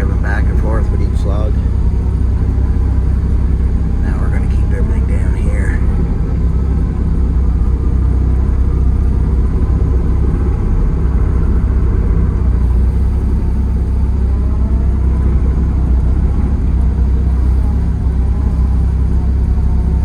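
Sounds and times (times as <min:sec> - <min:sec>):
excavator diesel engine droning: 0:00.0 - 0:20.0.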